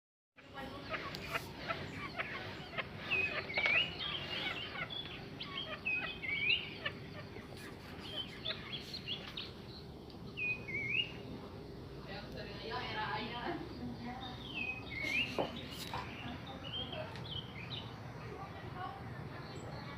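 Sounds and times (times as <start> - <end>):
small bird chattering: 0.4 - 11.3, 14.2 - 19.9.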